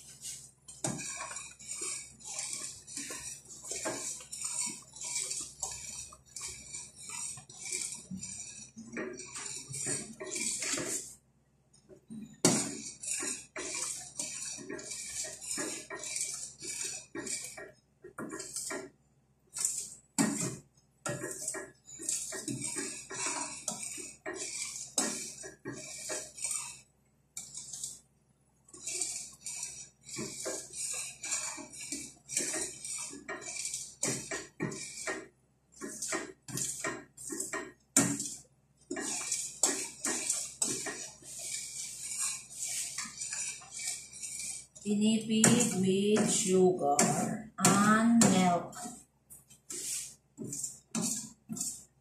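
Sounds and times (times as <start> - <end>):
metal spoon scraping a steel pot: 0.0 - 11.2, 12.2 - 28.1, 28.7 - 52.0.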